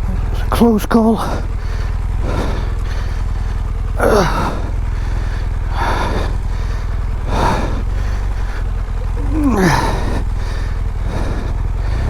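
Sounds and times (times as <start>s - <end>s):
motorcycle engine droning: 0.0s - 12.0s
rider breathing hard: 0.0s - 12.0s.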